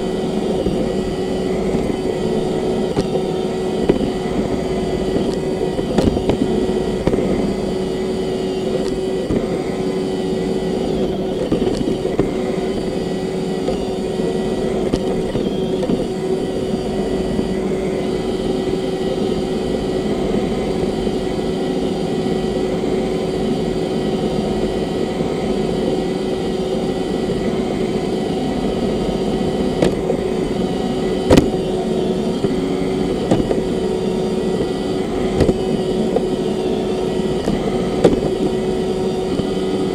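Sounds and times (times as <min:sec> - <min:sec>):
robot vacuum running: 0:00.0 - 0:39.9.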